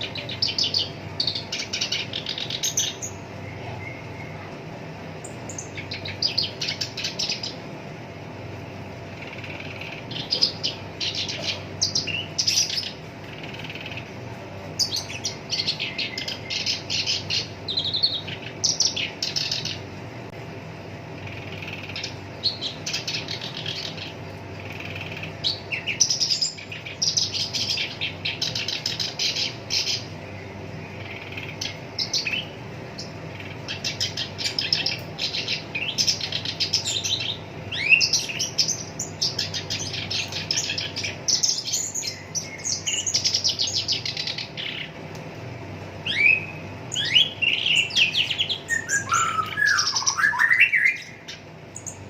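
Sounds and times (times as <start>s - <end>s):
faint low hum: 0.0s - 52.0s
warbler singing: 0.0s - 52.0s.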